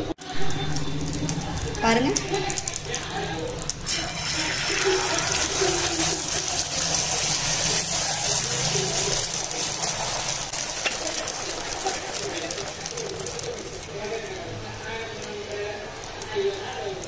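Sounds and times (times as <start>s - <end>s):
egg mixture sizzling on hot pan: 0.1s - 17.0s.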